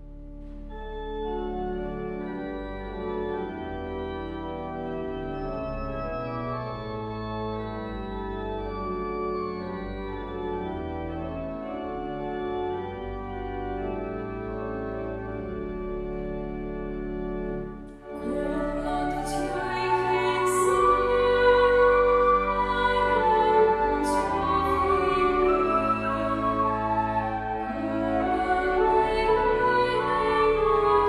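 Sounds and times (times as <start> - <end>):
organ playing chords: 0.0 - 31.0.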